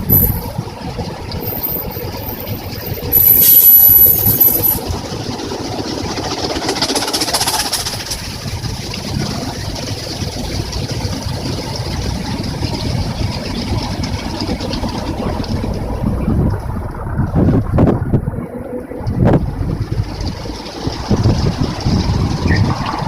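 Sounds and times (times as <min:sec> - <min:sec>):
car wash water and machinery: 0:00.0 - 0:23.0.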